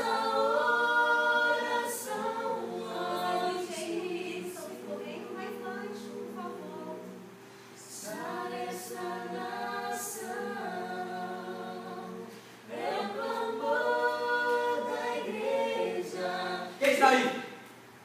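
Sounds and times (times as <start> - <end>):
group singing unaccompanied: 0.0 - 16.9.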